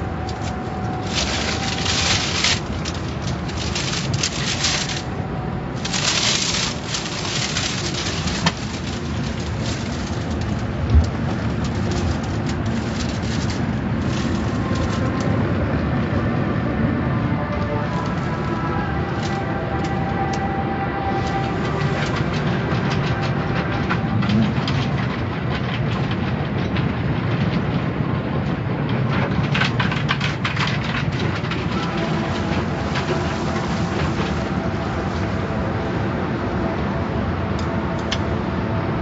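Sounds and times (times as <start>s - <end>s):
car wash machinery rumble and spray: 0.0s - 39.0s.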